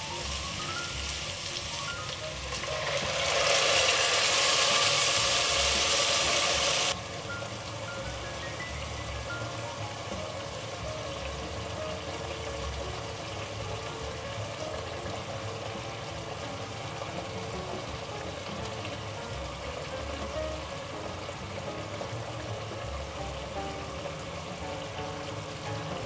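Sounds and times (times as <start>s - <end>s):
sauce simmering in a pot: 0.0s - 26.0s.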